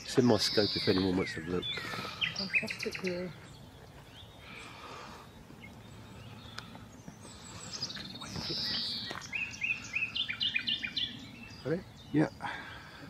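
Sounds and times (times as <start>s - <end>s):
nightingale singing: 0.0s - 13.0s.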